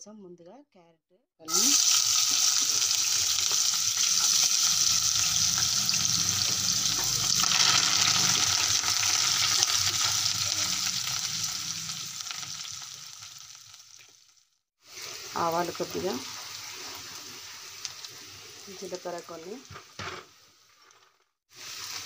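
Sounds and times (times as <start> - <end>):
vegetables sizzling in hot oil: 1.5 - 22.0.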